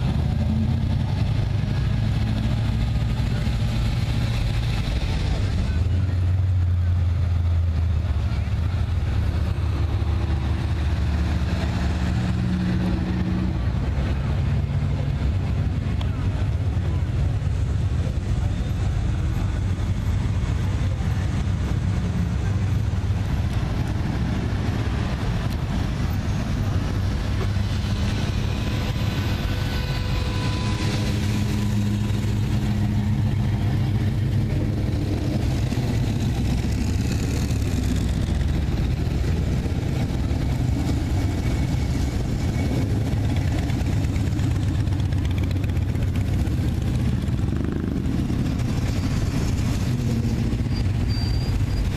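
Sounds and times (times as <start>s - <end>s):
car engines rumbling: 0.0s - 51.9s.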